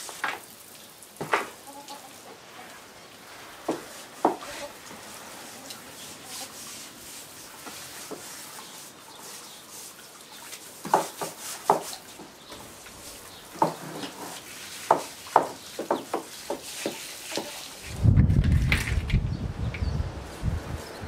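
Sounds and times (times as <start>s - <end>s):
garden hose spraying water: 0.0s - 21.0s.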